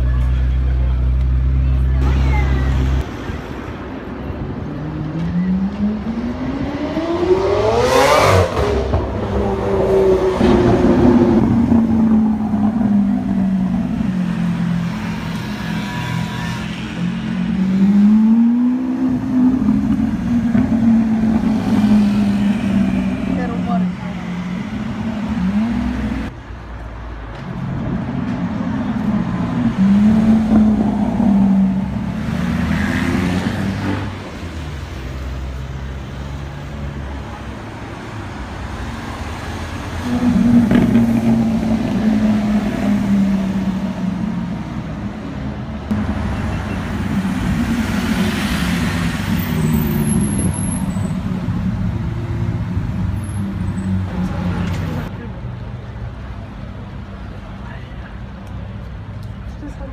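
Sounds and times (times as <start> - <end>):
street traffic: 0.0 - 59.9
supercar engines revving: 4.6 - 26.4, 27.5 - 57.4.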